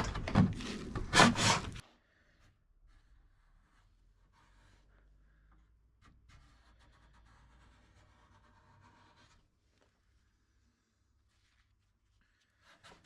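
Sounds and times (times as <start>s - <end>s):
faint scratching and rubbing: 0.0s - 1.8s, 2.8s - 13.0s.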